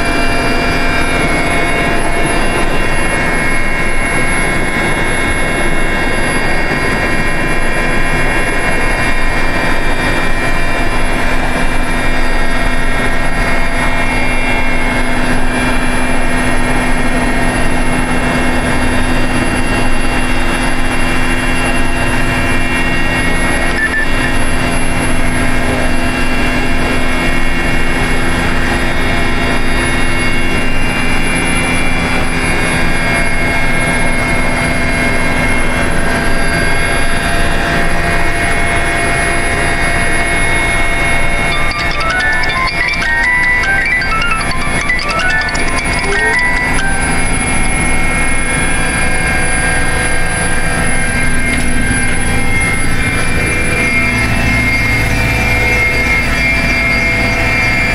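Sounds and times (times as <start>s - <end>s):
helicopter rotor drone: 0.0s - 57.9s
helicopter turbine whine: 0.0s - 57.9s.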